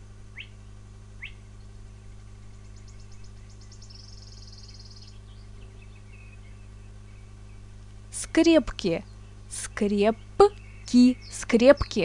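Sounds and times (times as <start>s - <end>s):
faint birdsong: 0.0s - 12.0s
steady low hum: 0.0s - 12.0s
buzzy bird trill: 1.2s - 1.8s, 2.5s - 12.0s.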